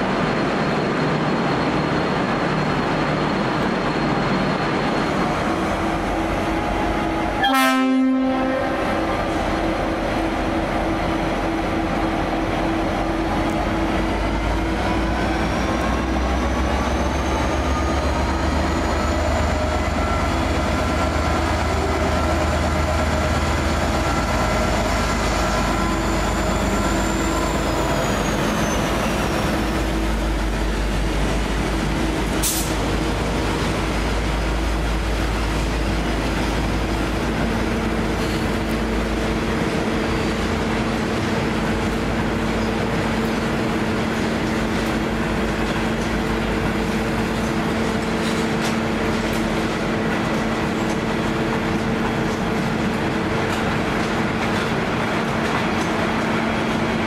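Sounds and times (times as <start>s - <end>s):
diesel locomotive rumble: 0.0s - 57.0s.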